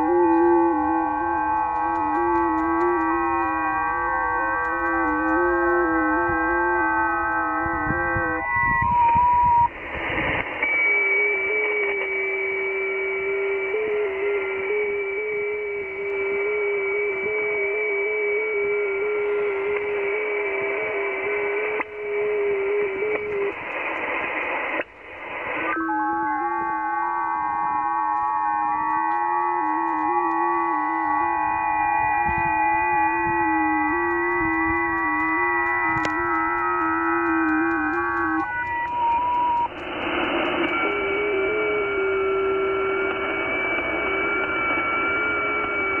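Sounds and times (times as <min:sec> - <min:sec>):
digital radio signal tones: 0:00.0 - 0:46.0
radio band noise hiss: 0:00.0 - 0:46.0.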